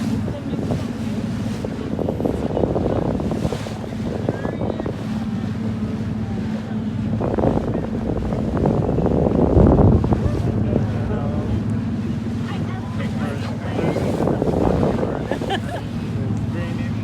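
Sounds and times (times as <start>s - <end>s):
low engine hum: 0.0s - 17.0s
wind buffeting microphone: 0.0s - 17.0s.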